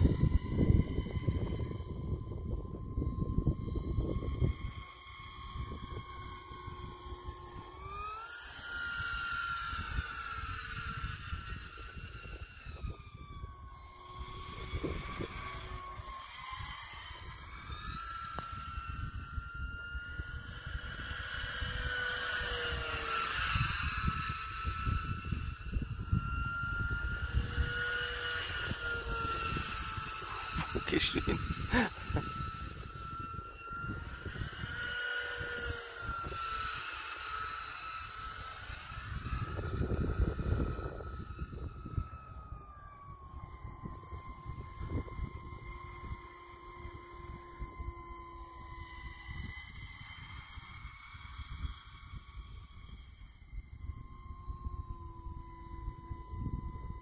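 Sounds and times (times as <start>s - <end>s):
model aircraft motor whine: 0.0s - 57.0s
wind buffeting microphone: 0.0s - 57.0s.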